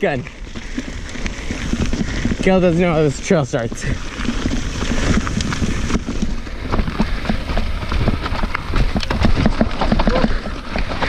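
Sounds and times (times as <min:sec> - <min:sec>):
bike chain and frame rattling: 0:00.0 - 0:11.0
tyres crunching on dirt: 0:00.0 - 0:11.0.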